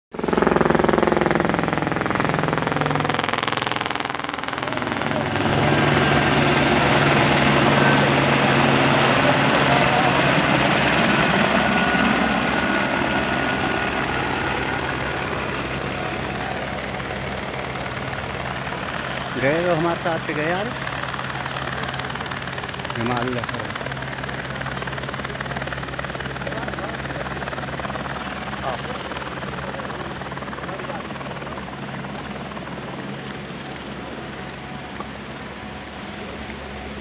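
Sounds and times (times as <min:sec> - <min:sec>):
helicopter flying past: 0:00.1 - 0:37.0.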